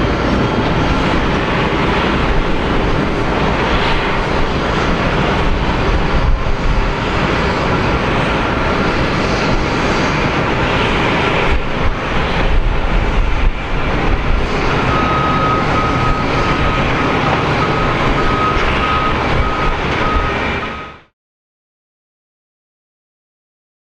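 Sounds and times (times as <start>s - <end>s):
jet engines running: 0.0s - 21.1s.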